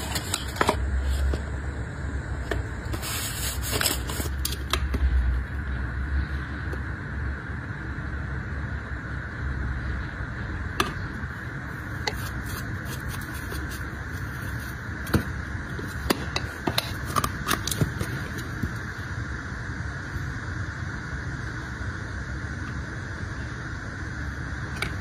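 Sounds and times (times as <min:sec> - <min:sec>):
steady background hiss: 0:00.0 - 0:25.0.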